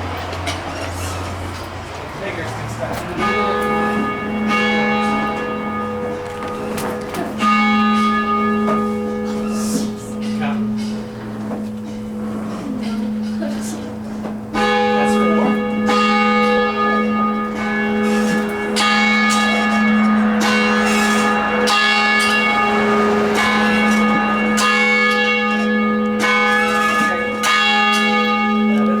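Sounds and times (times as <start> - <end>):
church bell ringing: 0.0 - 29.0.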